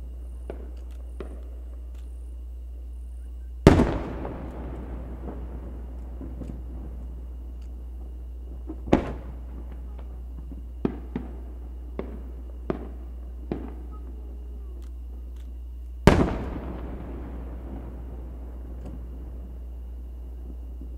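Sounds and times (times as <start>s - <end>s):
firework shells bursting: 0.0s - 20.9s.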